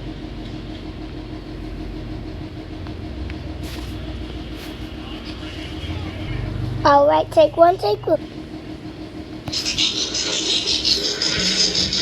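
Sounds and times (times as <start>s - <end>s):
low rumble with droning hum: 0.0s - 12.0s.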